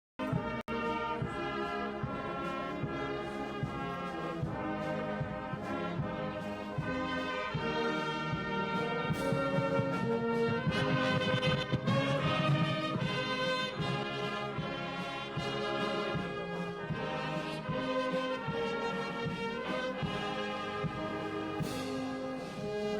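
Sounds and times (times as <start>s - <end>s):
brass instruments playing melody: 0.2s - 22.9s.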